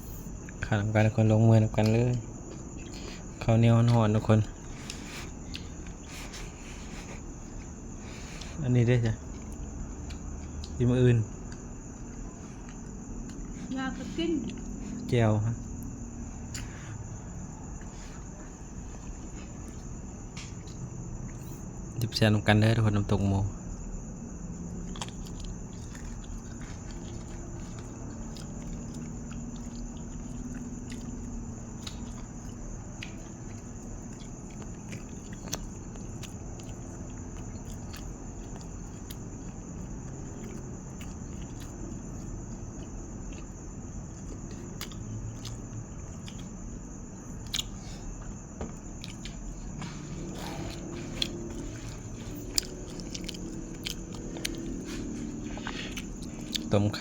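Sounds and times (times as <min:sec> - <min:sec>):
close-up chewing: 0:00.0 - 0:22.5, 0:23.6 - 0:57.0.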